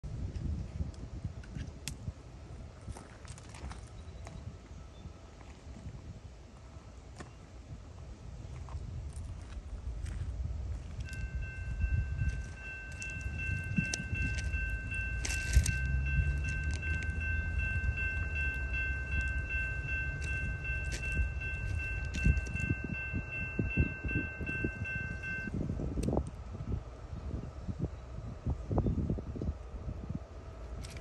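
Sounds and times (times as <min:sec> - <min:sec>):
freight train rumble: 0:00.0 - 0:31.0.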